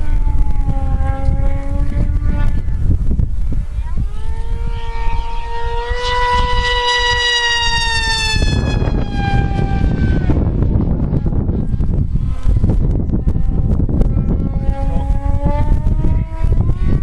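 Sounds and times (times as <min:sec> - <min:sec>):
model plane motor whine: 0:00.0 - 0:17.0
wind rumble on microphone: 0:00.0 - 0:17.0.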